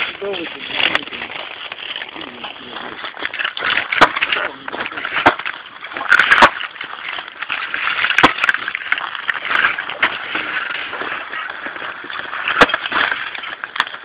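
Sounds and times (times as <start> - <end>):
rustling and crunching: 0.0 - 14.0
wood cracking and splintering: 0.0 - 14.0.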